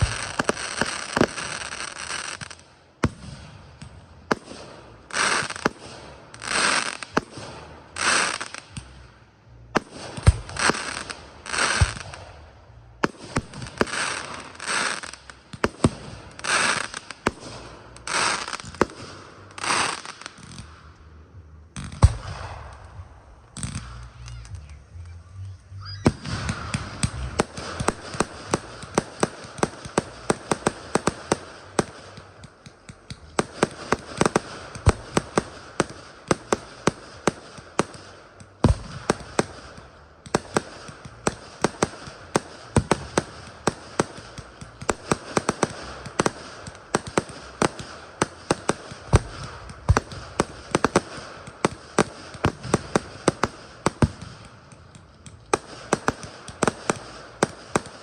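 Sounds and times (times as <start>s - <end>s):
fireworks bangs and crackles: 0.0s - 58.0s
steady hiss: 0.0s - 58.0s.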